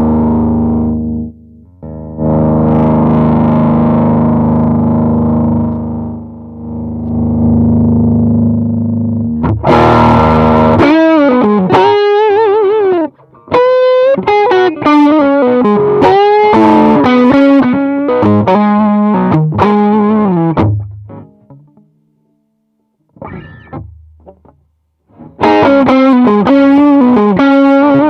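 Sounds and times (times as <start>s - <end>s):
electric guitar with overdrive: 0.0s - 28.0s.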